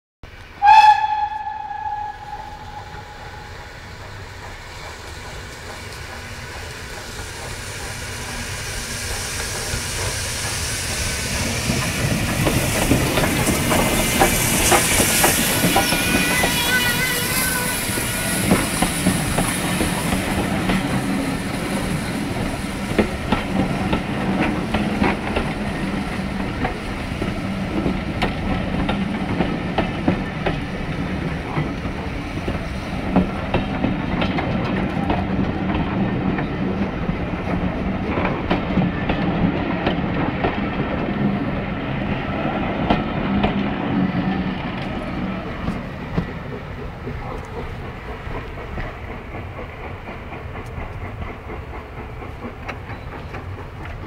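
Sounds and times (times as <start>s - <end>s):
train rolling rumble: 0.2s - 54.0s
train wheels clicking over rail joints: 1.2s - 54.0s.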